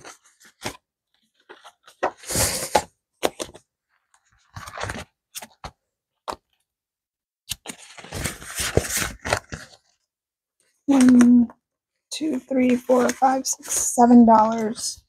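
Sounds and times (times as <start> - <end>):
paper and plastic rustling: 0.0 - 6.6, 7.5 - 11.4, 12.6 - 15.0.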